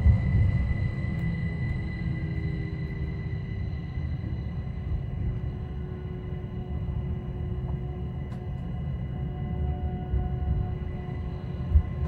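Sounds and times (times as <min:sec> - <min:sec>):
high whine: 0:00.0 - 0:12.0
train wheel-on-rail rumble: 0:00.0 - 0:12.0.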